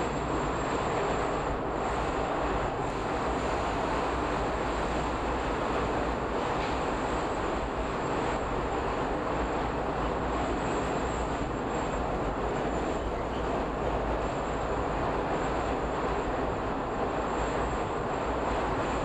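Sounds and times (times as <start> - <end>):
subway train rumbling in tunnel: 0.0 - 19.0.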